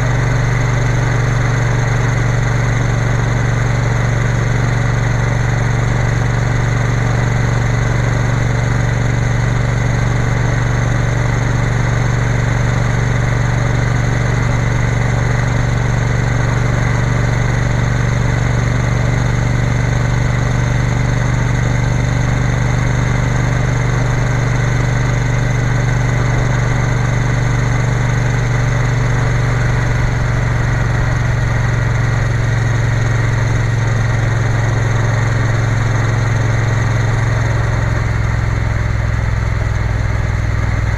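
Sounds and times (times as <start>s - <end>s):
motorcycle engine droning: 0.0s - 40.9s.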